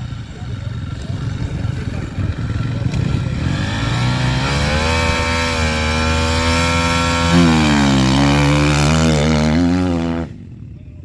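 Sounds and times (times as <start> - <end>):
motocross bike engine revving: 0.0 - 10.6.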